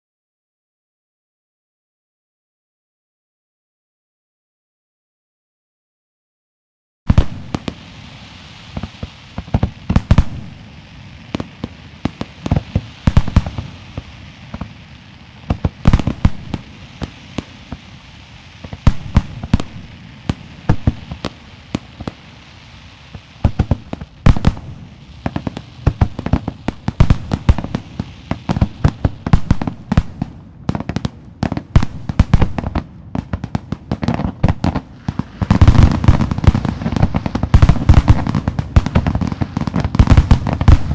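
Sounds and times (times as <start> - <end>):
fireworks bangs: 7.1 - 40.9.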